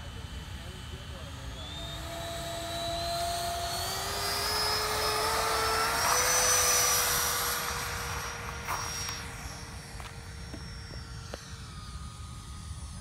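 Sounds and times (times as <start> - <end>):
model jet fans whining: 0.0 - 13.0.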